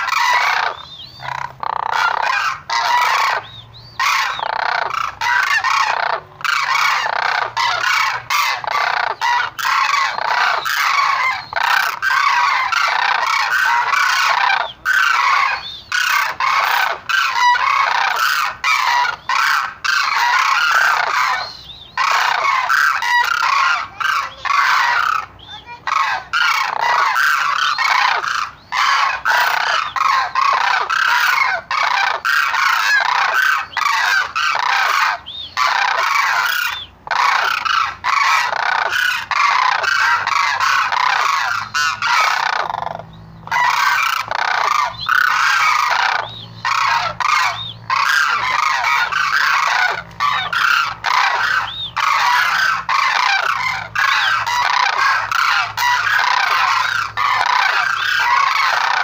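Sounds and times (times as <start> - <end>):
flock of cranes calling: 0.0 - 59.0.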